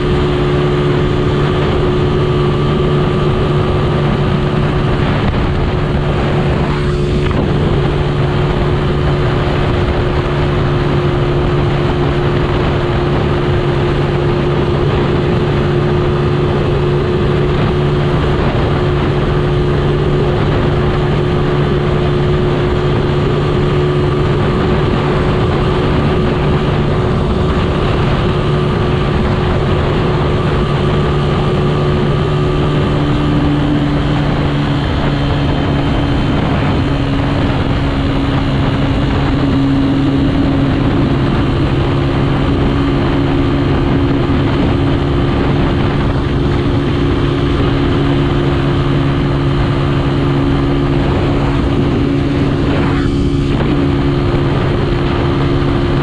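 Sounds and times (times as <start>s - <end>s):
motorcycle engine cruising: 0.0s - 56.0s
road noise: 0.0s - 56.0s
wind noise: 0.0s - 56.0s.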